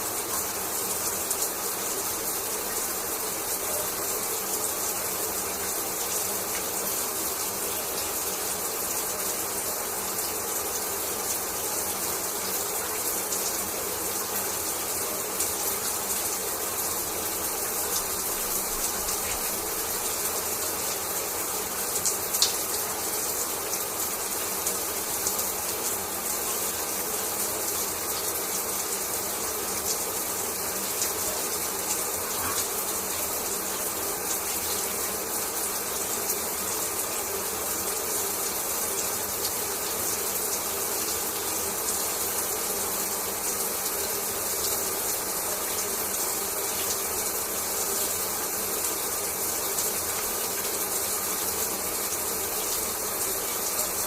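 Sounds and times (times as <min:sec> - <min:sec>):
shower water spray hissing: 0:00.0 - 0:54.0.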